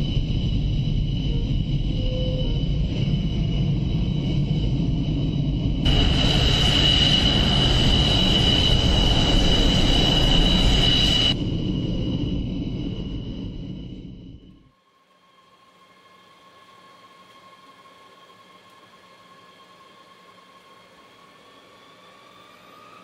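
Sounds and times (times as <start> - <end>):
high turbine whine: 0.0 - 23.0
jet engines low rumble: 0.0 - 23.0.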